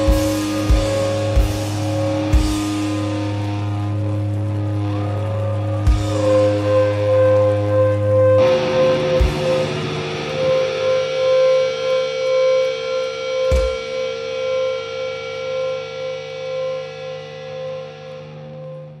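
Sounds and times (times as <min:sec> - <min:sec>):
electric guitar feedback drone: 0:00.0 - 0:19.0.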